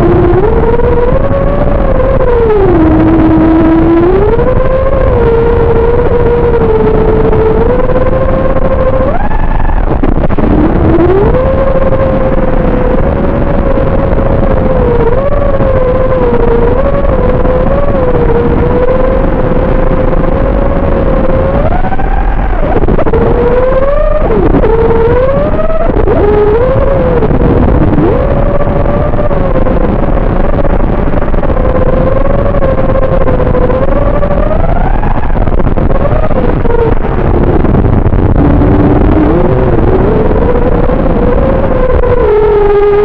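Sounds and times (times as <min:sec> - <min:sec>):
quadcopter motors whining: 0:00.0 - 0:43.0.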